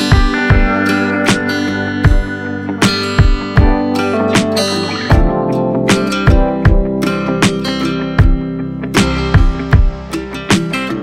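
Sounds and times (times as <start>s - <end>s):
acoustic guitar strumming: 0.0s - 11.0s
steady beat: 0.0s - 11.0s.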